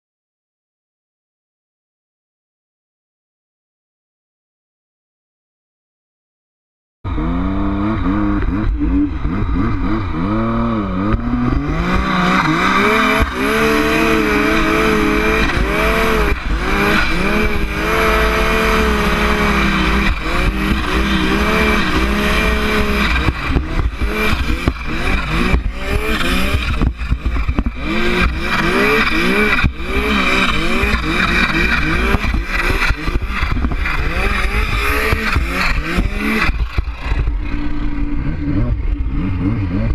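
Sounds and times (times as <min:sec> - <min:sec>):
snowmobile engine revving: 0:07.1 - 0:39.9.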